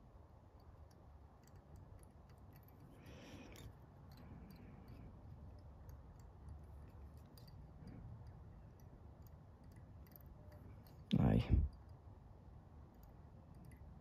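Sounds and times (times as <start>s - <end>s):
thread winding small ticks: 0.5s - 12.1s, 12.9s - 14.0s.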